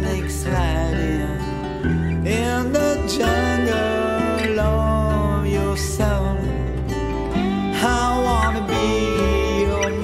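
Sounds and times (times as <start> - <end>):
song with guitar and double bass: 0.0 - 10.0.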